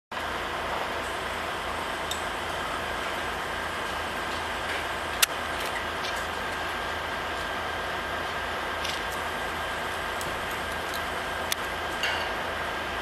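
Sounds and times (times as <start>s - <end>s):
crane engine running: 0.1s - 13.0s.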